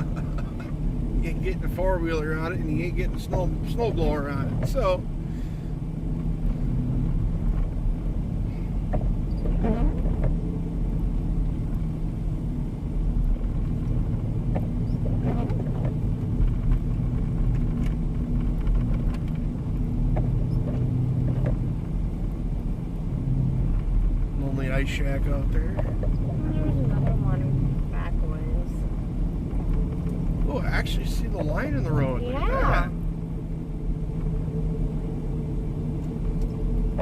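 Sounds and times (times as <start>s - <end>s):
engine and road hum inside vehicle: 0.0s - 37.0s.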